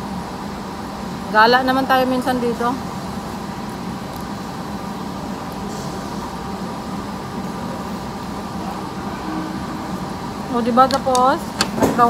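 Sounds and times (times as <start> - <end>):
hall ambience hum and hiss: 0.0 - 12.0.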